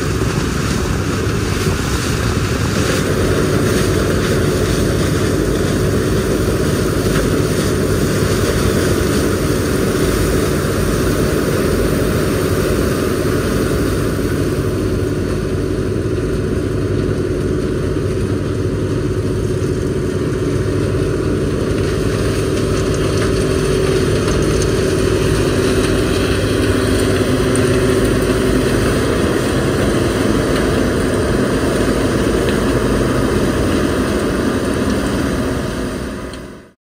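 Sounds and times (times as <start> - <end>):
combine harvester drone: 0.0 - 36.8.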